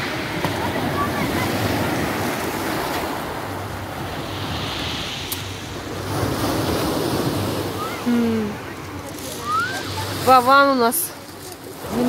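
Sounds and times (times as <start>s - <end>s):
sea waves washing onto shore: 0.0s - 12.0s.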